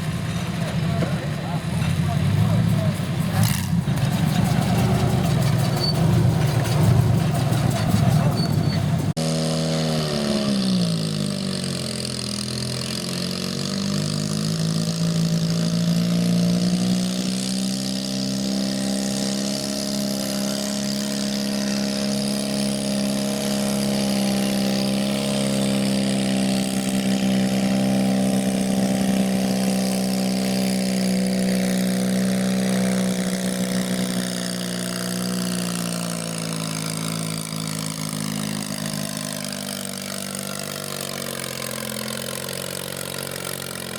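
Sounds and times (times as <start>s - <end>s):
garden tractor engine running: 0.0s - 9.8s, 17.3s - 43.9s.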